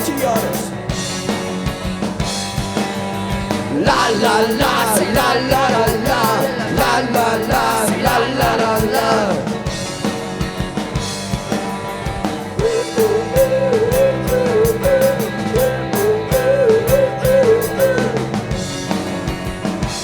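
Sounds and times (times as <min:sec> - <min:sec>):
drum kit hits: 0:00.0 - 0:20.0
guitar: 0:00.0 - 0:20.0
live rock band playing: 0:00.0 - 0:20.0.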